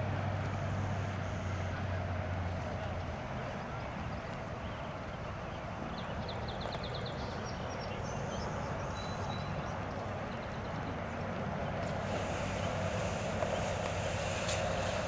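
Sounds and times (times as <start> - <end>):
horse hoofbeats on dirt: 0.0 - 15.0
outdoor background noise: 0.0 - 15.0.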